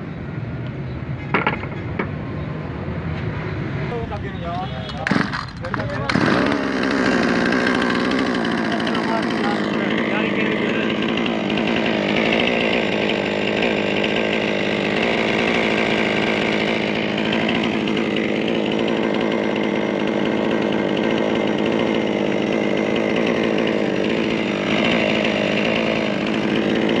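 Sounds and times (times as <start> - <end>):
two-stroke chainsaw engine running: 4.6 - 27.0.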